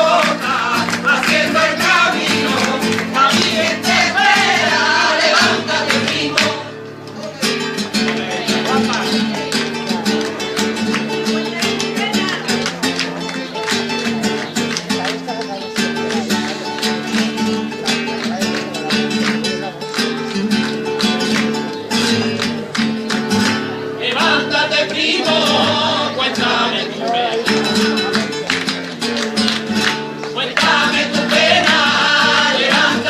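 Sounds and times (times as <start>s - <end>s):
flamenco guitar music: 0.0s - 33.0s.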